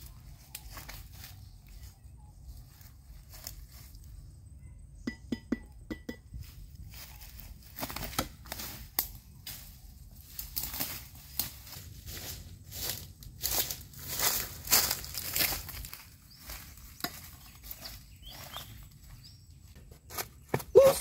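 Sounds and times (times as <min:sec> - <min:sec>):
footsteps through dry grass: 0:00.0 - 0:04.4, 0:06.4 - 0:19.8.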